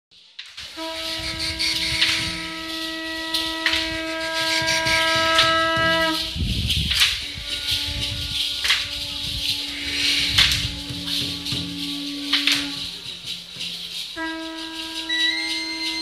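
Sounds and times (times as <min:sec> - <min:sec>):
conch shell trumpet blowing: 0:00.6 - 0:16.0.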